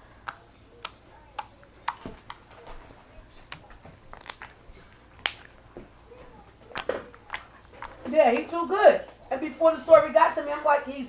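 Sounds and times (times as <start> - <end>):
slime squishing with wet pops: 0.0 - 9.3.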